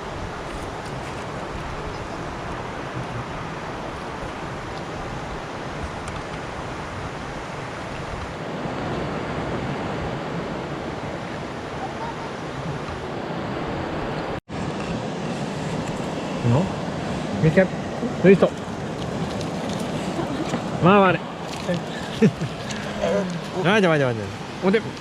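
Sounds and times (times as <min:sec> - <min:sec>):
river flowing: 0:00.0 - 0:25.0.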